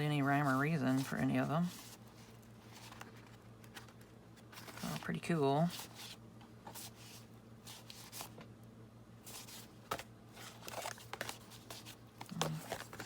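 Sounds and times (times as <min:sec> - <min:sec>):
paper pages rustling: 0:00.0 - 0:08.4, 0:09.2 - 0:13.0.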